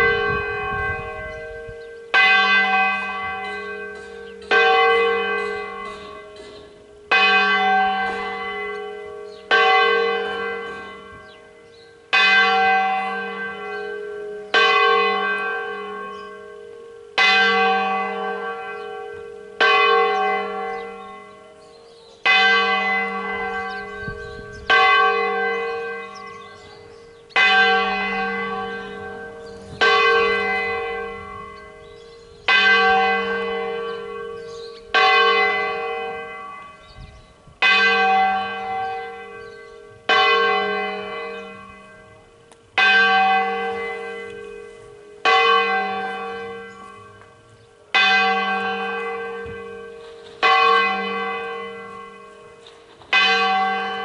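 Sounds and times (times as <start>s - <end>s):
large church bell ringing: 0.0s - 54.0s.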